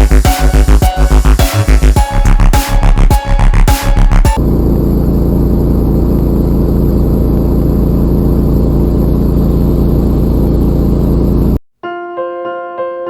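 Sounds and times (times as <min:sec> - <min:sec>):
motor humming: 0:00.0 - 0:11.6.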